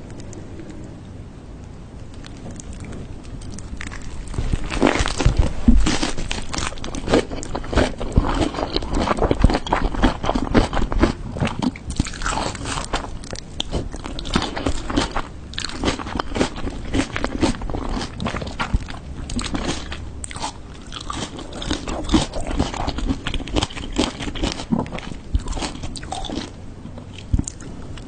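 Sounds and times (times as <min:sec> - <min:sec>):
person chewing crunchy food: 0:02.1 - 0:28.0.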